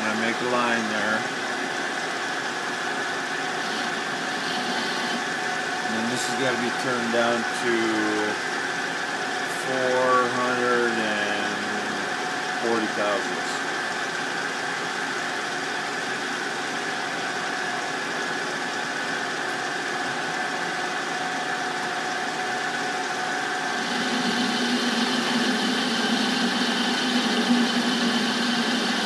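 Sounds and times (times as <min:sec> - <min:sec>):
metal lathe cutting: 0:00.0 - 0:29.0.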